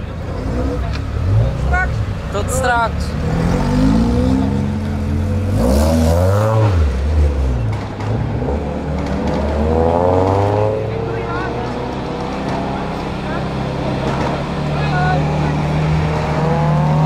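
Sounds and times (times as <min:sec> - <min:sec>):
sports car engine accelerating: 0:00.2 - 0:17.0.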